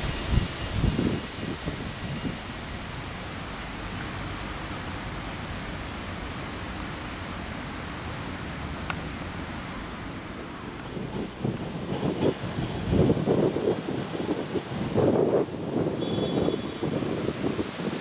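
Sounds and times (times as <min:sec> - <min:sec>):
wind hiss on microphone: 0:00.0 - 0:18.0.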